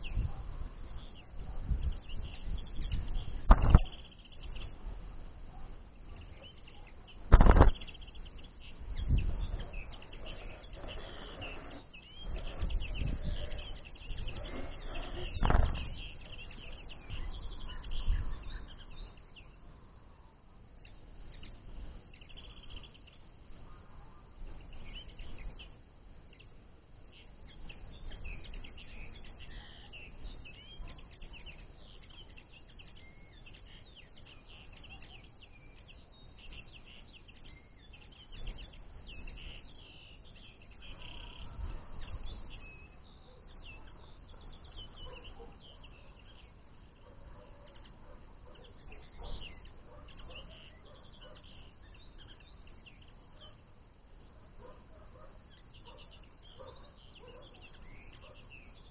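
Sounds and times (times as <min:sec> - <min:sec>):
rustles: 0:00.0 - 0:58.9
songbirds chirping and twittering: 0:00.0 - 0:58.9.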